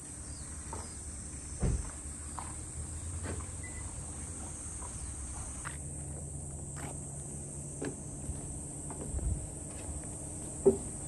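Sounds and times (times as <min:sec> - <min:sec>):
insects chirping: 0:00.0 - 0:11.0
flip-flop footsteps on pavement: 0:00.7 - 0:07.2, 0:07.8 - 0:11.0.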